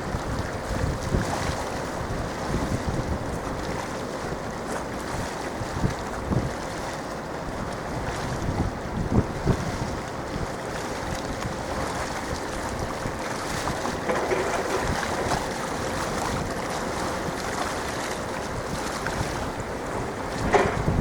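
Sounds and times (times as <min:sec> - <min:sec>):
harbour waves washing: 0:00.0 - 0:21.0
wind buffeting microphone: 0:00.0 - 0:21.0.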